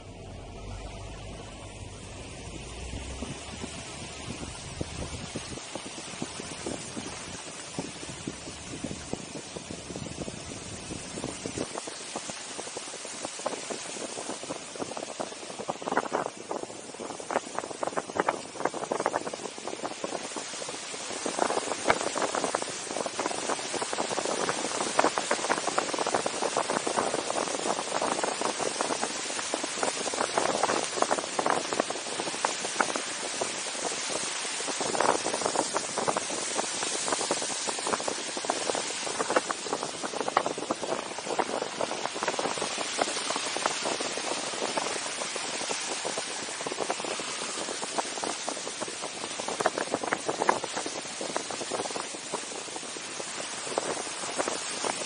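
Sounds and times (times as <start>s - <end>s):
tyres on slushy road: 0.0s - 55.0s
wind rushing: 0.0s - 55.0s.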